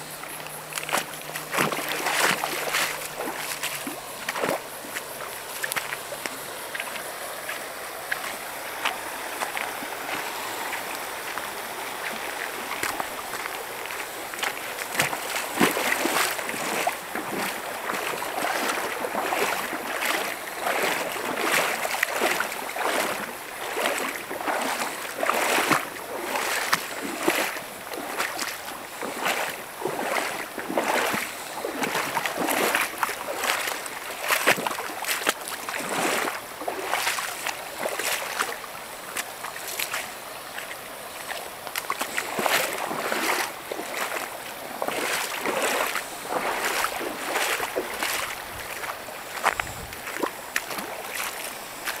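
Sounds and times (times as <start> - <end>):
stream babbling over rocks: 0.0 - 52.0.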